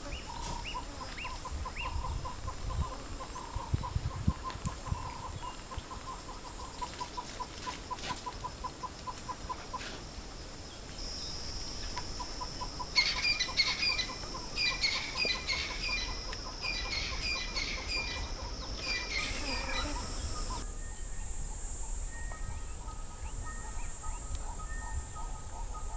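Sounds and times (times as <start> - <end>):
steady high hiss: 5.0 - 25.9.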